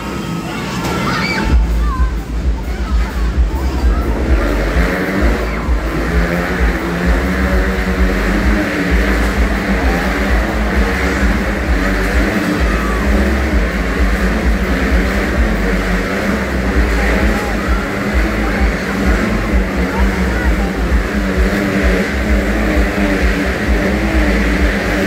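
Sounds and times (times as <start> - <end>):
motorcycle engines droning: 0.0 - 25.0.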